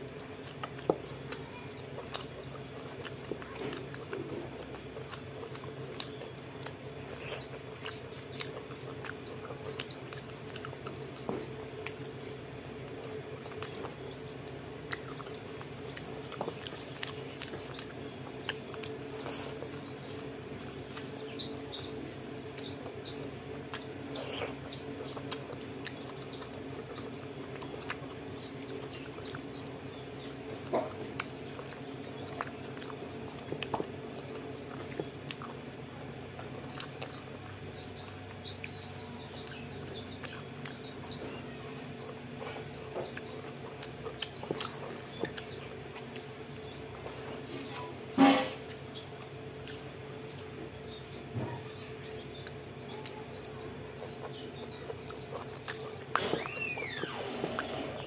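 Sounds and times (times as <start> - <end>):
chewing and lip smacks: 0.0 - 58.0
steady low hum: 0.0 - 58.0
wet squelches of food: 0.0 - 58.0.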